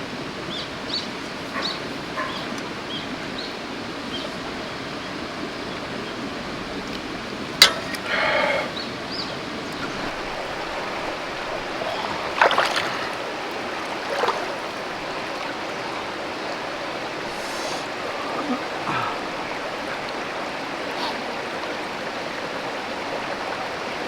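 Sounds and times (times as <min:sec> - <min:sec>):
shallow stream flowing: 0:00.0 - 0:24.0.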